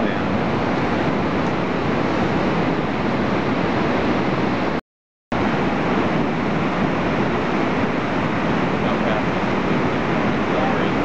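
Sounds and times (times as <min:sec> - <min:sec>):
whitewater rapid roaring: 0:00.0 - 0:04.8, 0:05.4 - 0:11.0.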